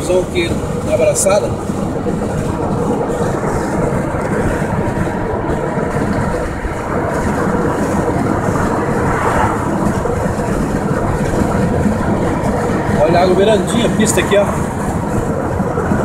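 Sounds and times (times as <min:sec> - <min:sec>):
car engine running: 0:00.0 - 0:16.0
tyres on asphalt: 0:00.0 - 0:16.0.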